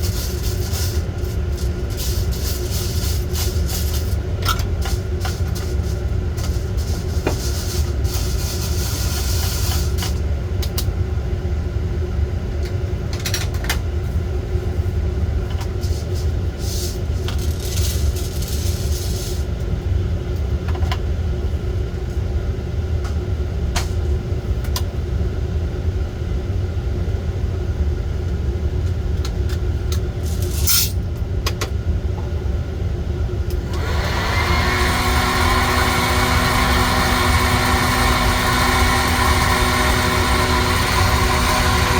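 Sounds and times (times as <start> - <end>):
coffee roaster rumble: 0.0 - 41.9.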